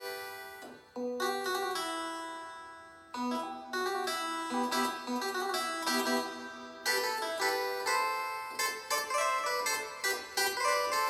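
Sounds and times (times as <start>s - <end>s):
synthesizer plucked notes: 0.0s - 11.0s.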